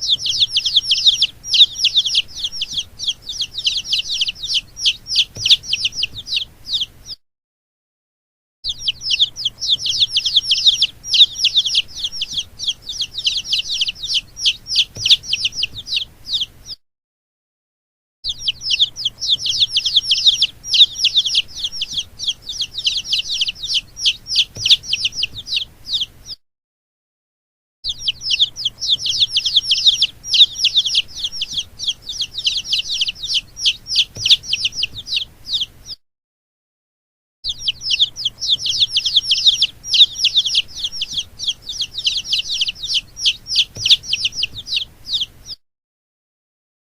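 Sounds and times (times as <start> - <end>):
chicks peeping: 0.0 - 7.2, 8.7 - 16.8, 18.3 - 26.4, 27.9 - 36.0, 37.5 - 45.6.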